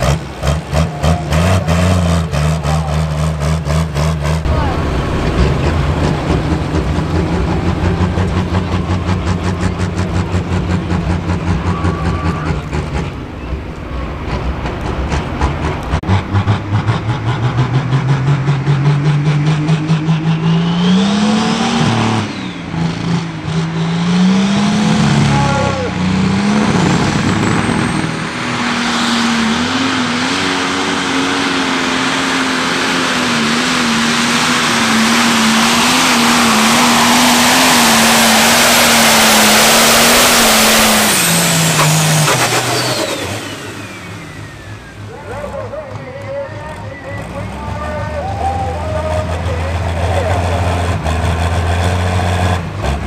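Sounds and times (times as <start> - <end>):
diesel tractor engine at full throttle: 0.0 - 53.0.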